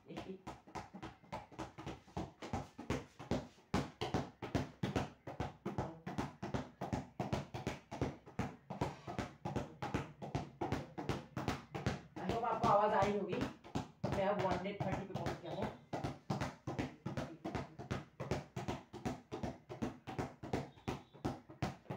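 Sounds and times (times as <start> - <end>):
ball bouncing on hard floor: 0.1 - 21.9.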